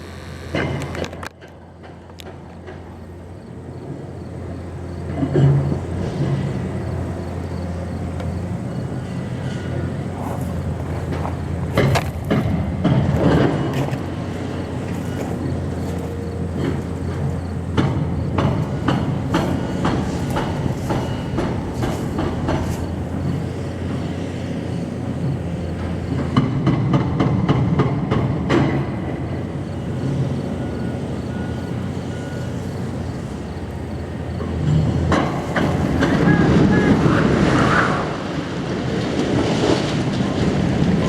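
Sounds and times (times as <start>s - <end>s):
heavy engine running: 0.0s - 41.0s.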